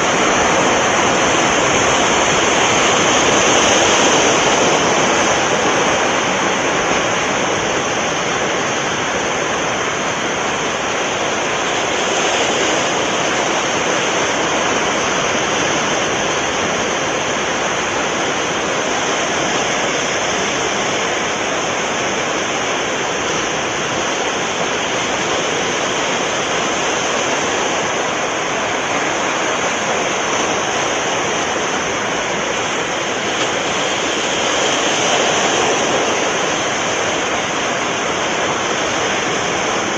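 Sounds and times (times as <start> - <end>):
sea waves and surf: 0.0 - 39.9.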